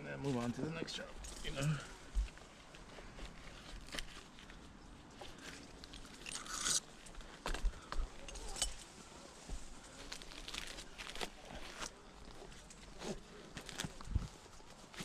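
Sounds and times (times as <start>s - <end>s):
dry palm fronds rustling: 0.2s - 15.0s.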